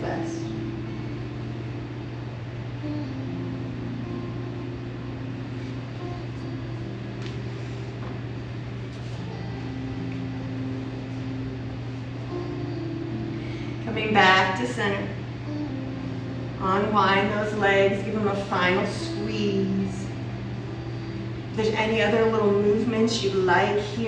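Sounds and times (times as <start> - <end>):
soft slow background music: 0.0 - 24.0
steady low hum: 0.0 - 24.0.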